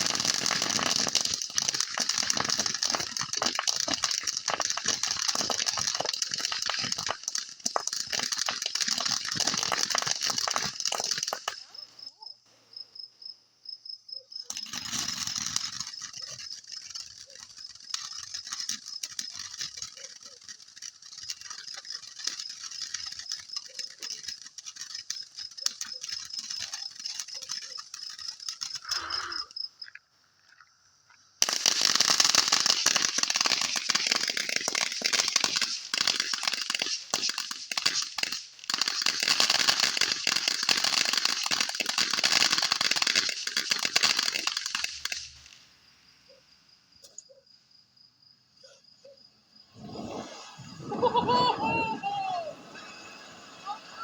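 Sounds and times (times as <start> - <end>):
fireworks crackling: 0.0 - 12.1, 14.4 - 29.6, 31.3 - 46.3, 49.6 - 54.0
crickets chirping: 8.1 - 54.0.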